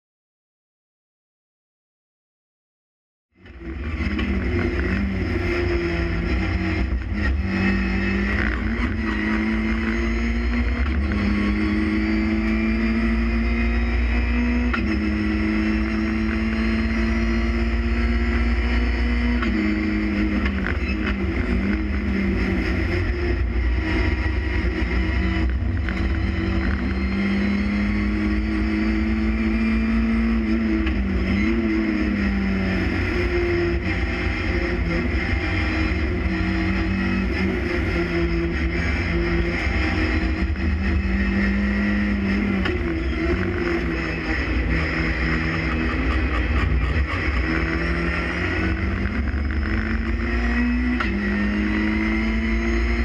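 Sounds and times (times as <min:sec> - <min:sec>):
race car engine at high revs: 0:03.3 - 0:53.0.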